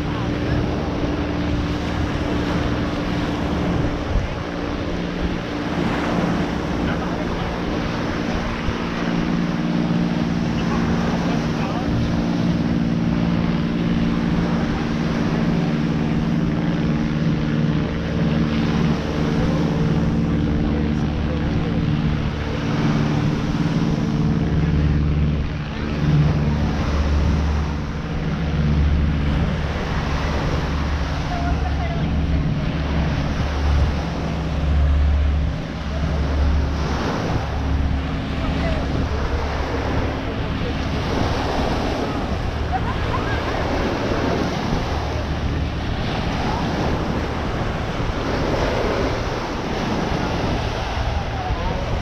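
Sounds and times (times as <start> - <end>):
continuous noisy wash: 0.0 - 52.0
small waves breaking on sand: 0.0 - 52.0
steady engine drone: 0.0 - 52.0
wind buffeting microphone: 0.0 - 52.0.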